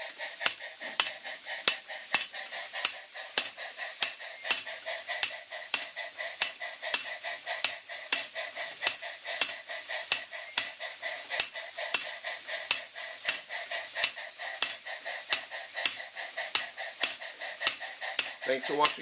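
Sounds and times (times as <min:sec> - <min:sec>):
model steam hammer striking: 0:00.0 - 0:19.0
steam hissing: 0:00.0 - 0:19.0.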